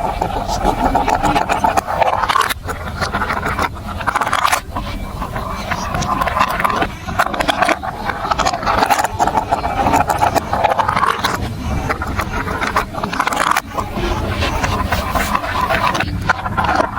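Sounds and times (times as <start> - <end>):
marbles rolling on plastic track: 0.1 - 16.9.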